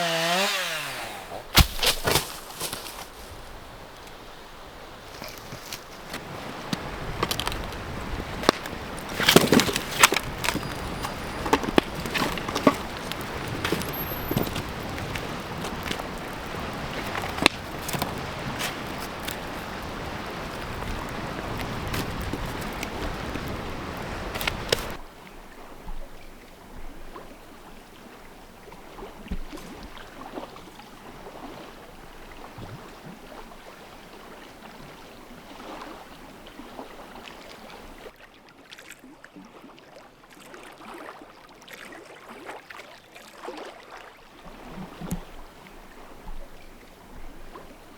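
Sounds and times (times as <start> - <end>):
lake waves lapping on shore: 0.0 - 26.4, 27.1 - 47.9.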